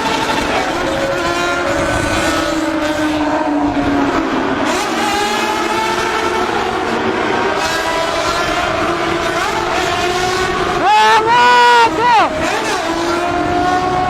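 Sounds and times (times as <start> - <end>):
motorcycle engines echoing in tunnel: 0.0 - 14.0.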